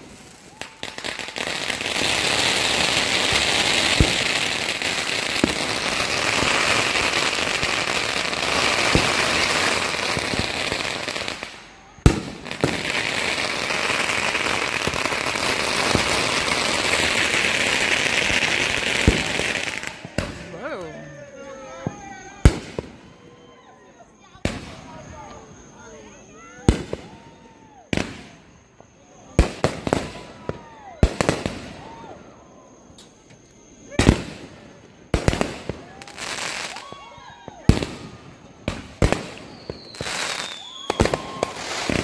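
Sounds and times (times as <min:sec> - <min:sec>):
fireworks bangs: 0:00.0 - 0:42.0
fireworks crackling: 0:00.0 - 0:42.0.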